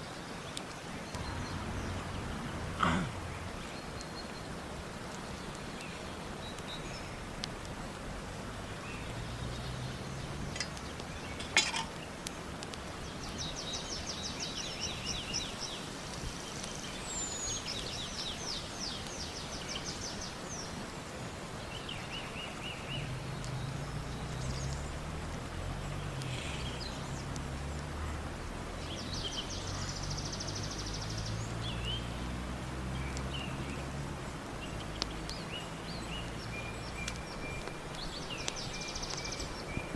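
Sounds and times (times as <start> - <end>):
outdoor background hiss: 0.0 - 39.9
songbirds singing trills: 0.0 - 39.9.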